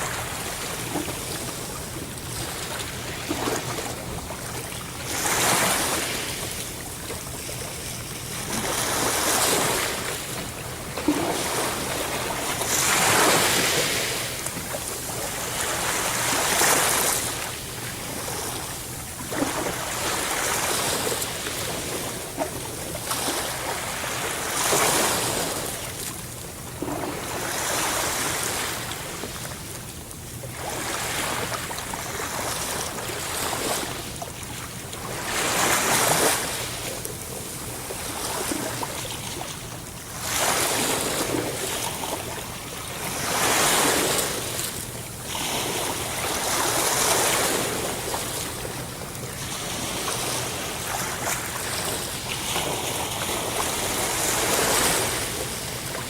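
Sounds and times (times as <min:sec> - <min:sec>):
sea waves breaking: 0:00.0 - 0:29.6, 0:30.5 - 0:56.0.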